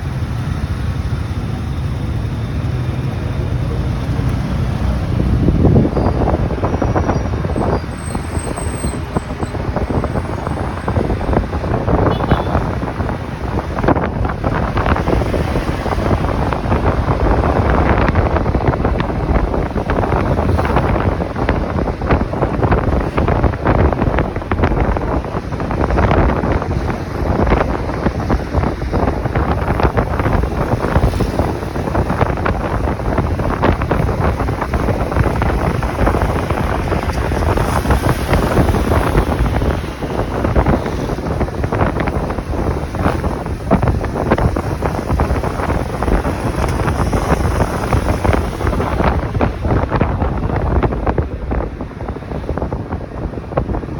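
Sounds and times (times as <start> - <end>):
road noise: 0.0 - 53.9
wind buffeting microphone: 0.0 - 53.9.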